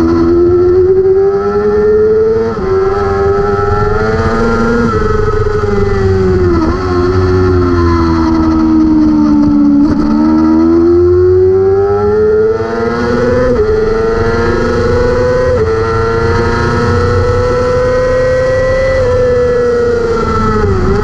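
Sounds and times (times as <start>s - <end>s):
racing motorcycle engine revving: 0.0s - 21.0s.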